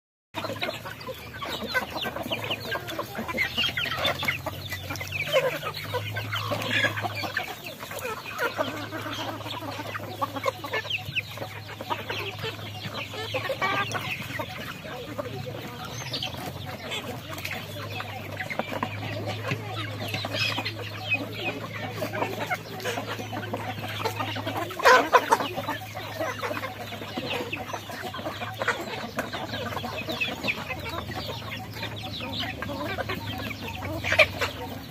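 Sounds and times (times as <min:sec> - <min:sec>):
chickens clucking: 0:00.3 - 0:34.9.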